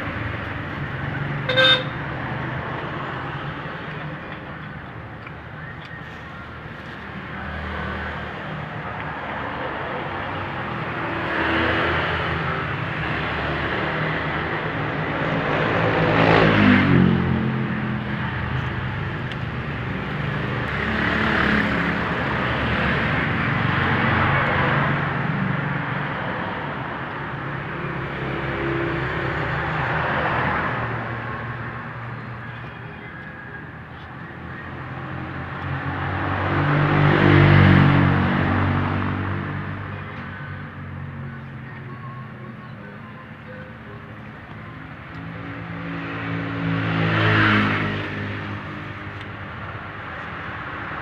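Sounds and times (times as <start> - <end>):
vehicles passing by: 0.0 - 51.0.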